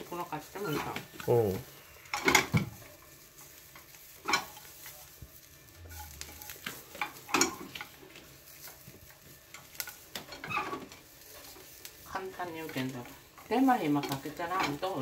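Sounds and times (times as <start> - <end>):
low sizzle in pan: 0.0 - 15.0
stirring strokes against pan: 0.0 - 15.0.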